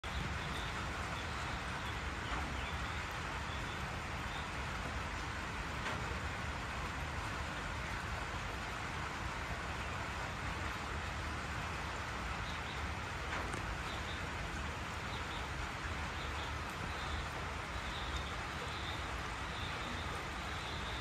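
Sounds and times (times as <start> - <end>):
rain hissing on forest: 0.0 - 21.0
water drips: 0.0 - 21.0.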